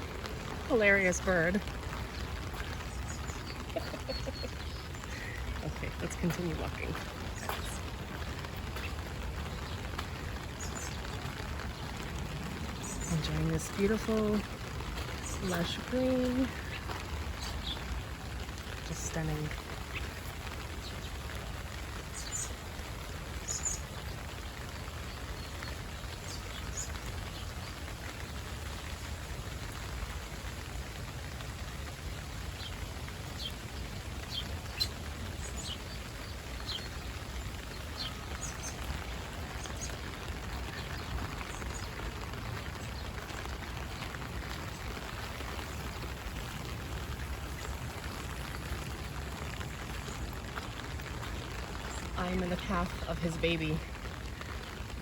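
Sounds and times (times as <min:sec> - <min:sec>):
rain on an umbrella: 0:00.0 - 0:55.0.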